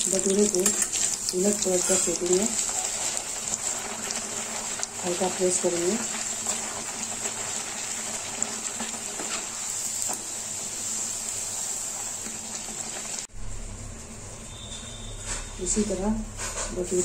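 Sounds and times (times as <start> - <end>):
dough sizzling in hot oil: 0.0 - 13.6.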